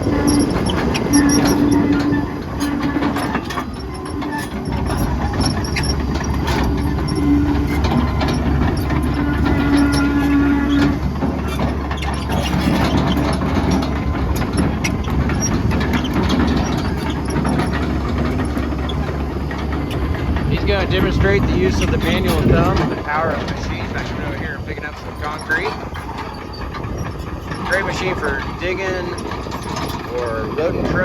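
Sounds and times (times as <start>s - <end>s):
excavator diesel engine running: 0.0s - 31.0s
high squeals: 0.0s - 31.0s
metallic clanks and clicks: 0.0s - 31.0s.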